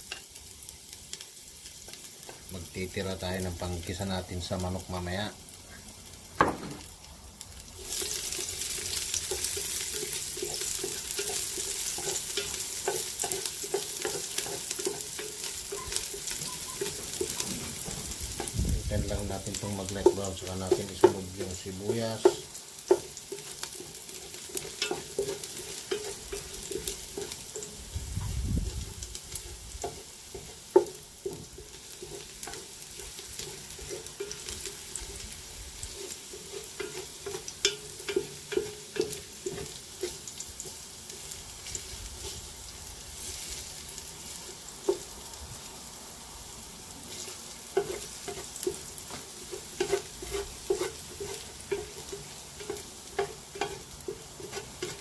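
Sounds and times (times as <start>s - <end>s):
garlic sizzling in oil: 0.0s - 55.0s.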